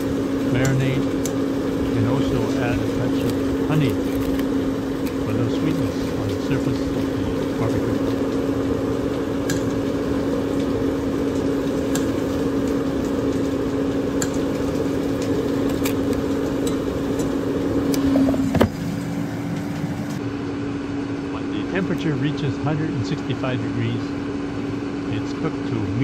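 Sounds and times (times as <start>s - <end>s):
appliance fan humming: 0.0s - 26.0s.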